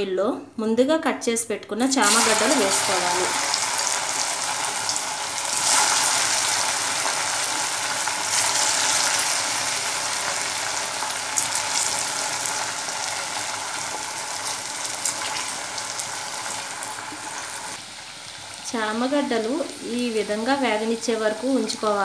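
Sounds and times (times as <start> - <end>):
hot oil sizzling and bubbling: 2.0 - 22.0.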